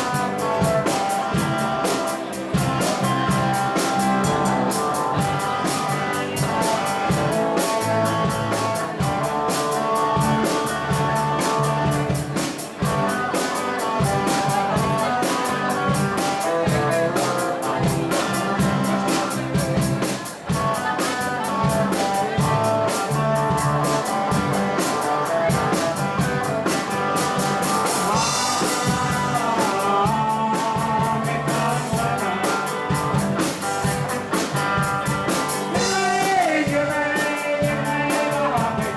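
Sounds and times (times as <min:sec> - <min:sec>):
drum kit: 0:00.0 - 0:38.9
electric guitar: 0:00.0 - 0:38.9
person singing: 0:00.0 - 0:38.9.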